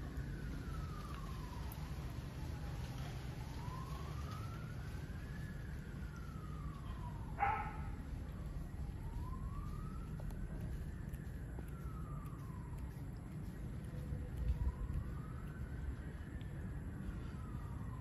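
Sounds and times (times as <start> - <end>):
emergency vehicle siren wailing: 0.0 - 18.0
steady low rumble: 0.0 - 18.0.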